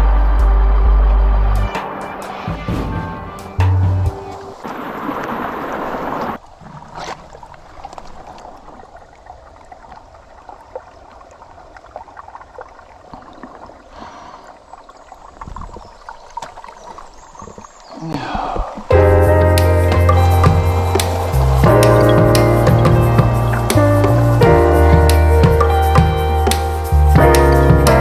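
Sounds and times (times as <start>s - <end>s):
rushing stream water: 0.0s - 28.0s.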